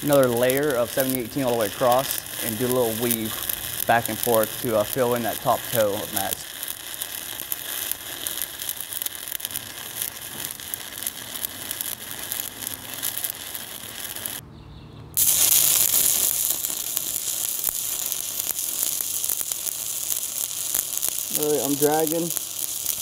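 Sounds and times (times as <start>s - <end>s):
welding arc crackling and sizzling: 0.0s - 14.4s, 15.2s - 23.0s.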